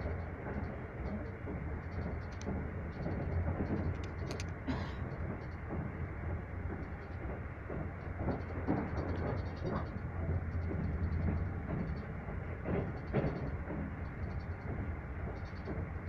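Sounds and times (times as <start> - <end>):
train wheels rumbling on rail: 0.0 - 16.0
wheel clacks: 0.0 - 16.0.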